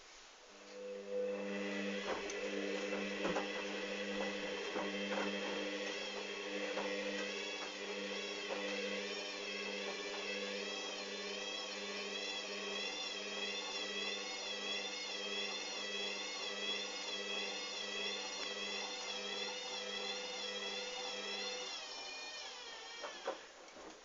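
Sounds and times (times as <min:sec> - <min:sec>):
washing machine spinning: 0:00.0 - 0:23.6.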